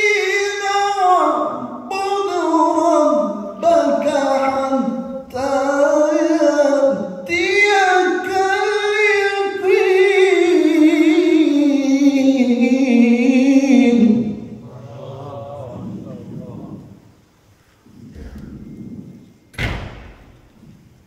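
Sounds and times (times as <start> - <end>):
man reciting melodically: 0.0 - 17.2.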